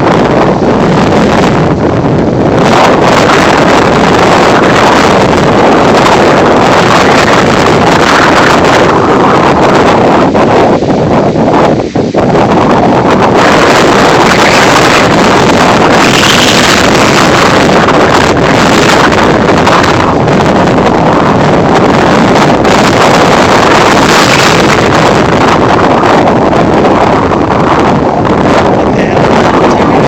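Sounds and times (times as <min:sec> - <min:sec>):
wind blowing on microphone: 0:00.0 - 0:30.0.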